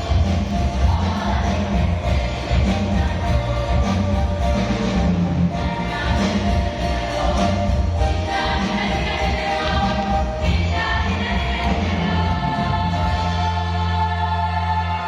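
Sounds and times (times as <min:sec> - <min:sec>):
choir singing: 0:00.0 - 0:15.0
low bass accompaniment: 0:00.0 - 0:15.0.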